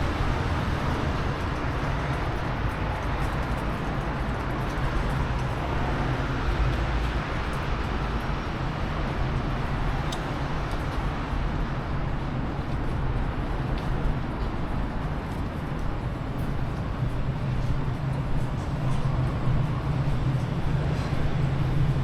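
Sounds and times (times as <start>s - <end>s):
rumble of vehicles: 0.0s - 22.0s.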